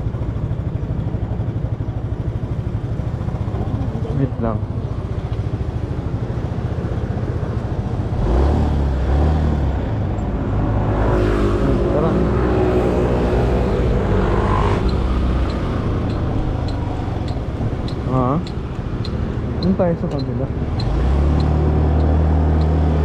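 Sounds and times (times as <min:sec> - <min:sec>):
motorcycle engine: 0:00.0 - 0:23.0
road and wind noise: 0:00.0 - 0:23.0.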